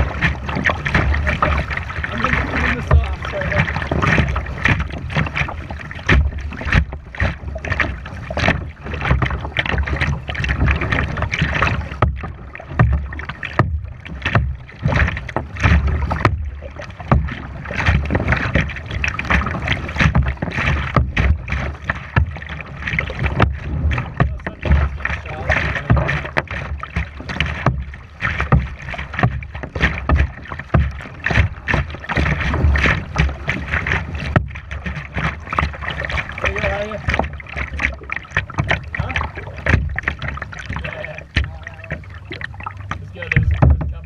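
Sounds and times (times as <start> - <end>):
paddle splashing water: 0.0 - 44.0.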